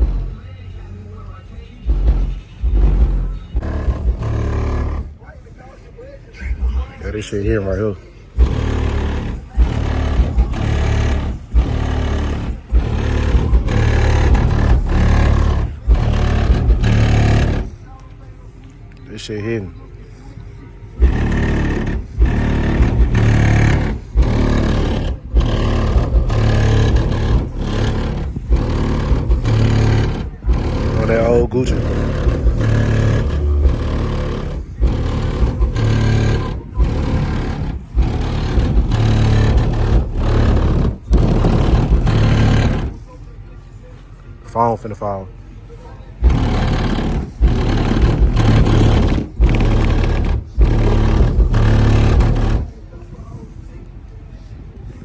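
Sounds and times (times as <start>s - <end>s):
subwoofer pounding deep bass: 0.0s - 5.3s, 6.4s - 18.4s, 21.0s - 43.4s, 46.1s - 52.9s
music through car stereo: 0.0s - 55.0s.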